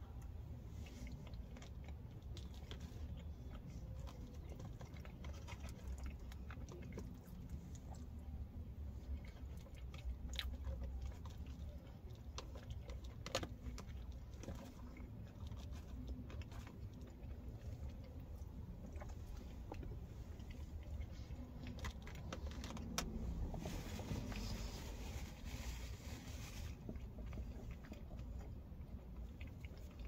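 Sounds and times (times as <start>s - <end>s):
low steady hum: 0.0s - 30.0s
person chewing and eating: 0.0s - 30.0s.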